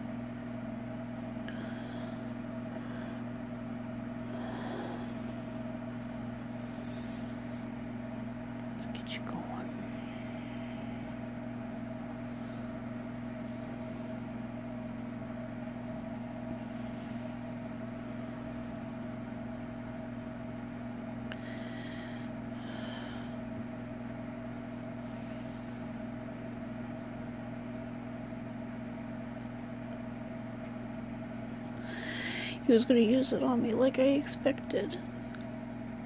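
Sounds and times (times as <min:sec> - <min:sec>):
motor humming: 0:00.0 - 0:30.1.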